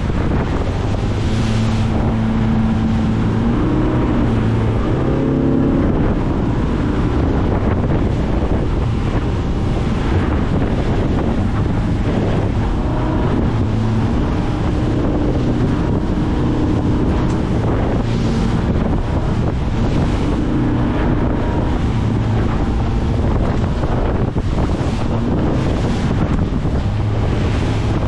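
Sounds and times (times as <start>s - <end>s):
boat engine drone: 0.0s - 28.0s
water rushing past boat hull: 0.0s - 28.0s
wind buffeting microphone: 0.0s - 28.0s.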